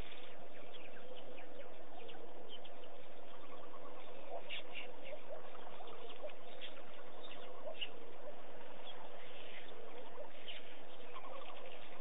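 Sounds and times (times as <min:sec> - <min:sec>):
many birds chirping and calling: 0:00.0 - 0:12.0.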